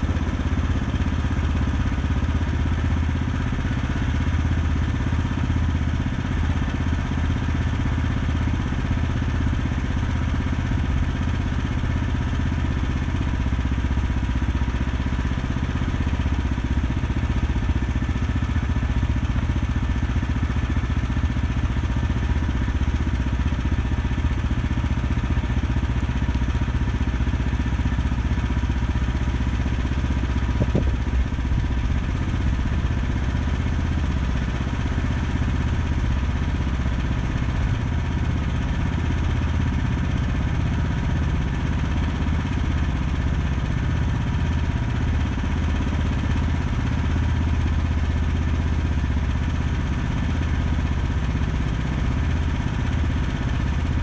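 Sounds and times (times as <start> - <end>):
sawmill gasoline engine running: 0.0 - 54.0.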